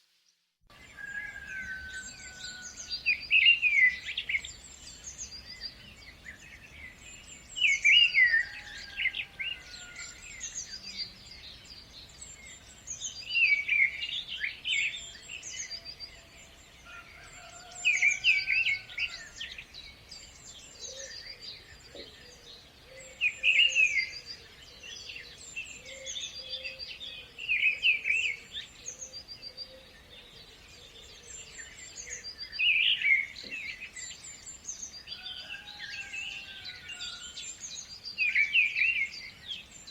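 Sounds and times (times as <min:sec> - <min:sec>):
songbirds chirping: 0:00.1 - 0:39.9.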